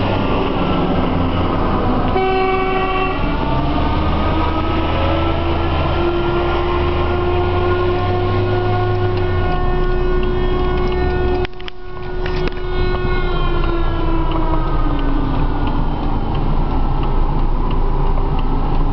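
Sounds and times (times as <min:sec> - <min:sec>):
air-raid siren: 0:00.0 - 0:17.0
low car rumble: 0:00.0 - 0:18.9.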